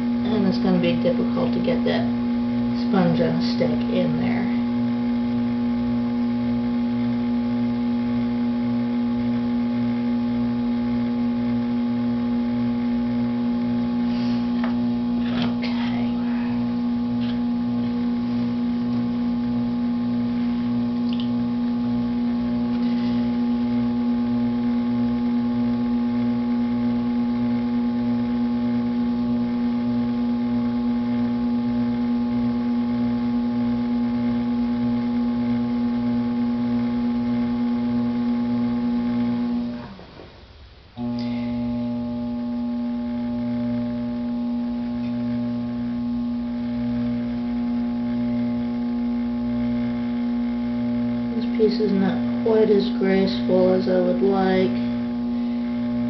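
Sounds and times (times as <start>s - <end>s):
potter's wheel motor hum: 0.0s - 56.0s.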